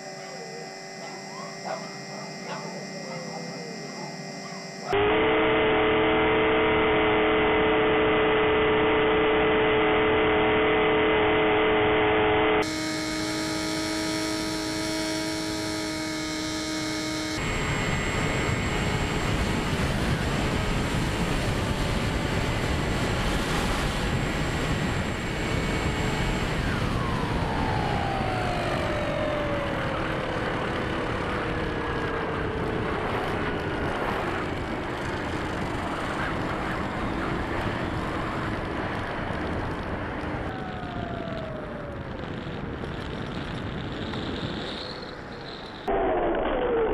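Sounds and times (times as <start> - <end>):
electric motor and propeller drone: 0.0 - 45.9.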